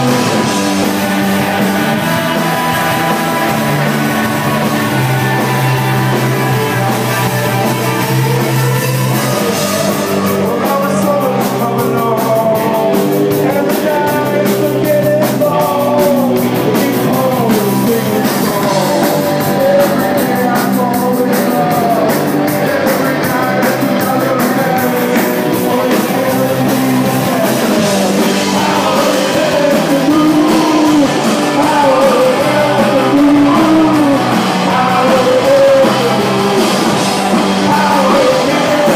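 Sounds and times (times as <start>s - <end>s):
bass guitar: 0.0s - 38.9s
drum beat: 0.0s - 38.9s
electric guitars: 0.0s - 38.9s.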